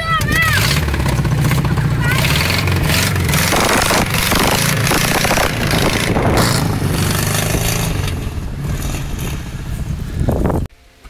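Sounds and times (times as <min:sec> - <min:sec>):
car engine running hard: 0:00.0 - 0:10.7
loud rushing noise: 0:00.1 - 0:10.7.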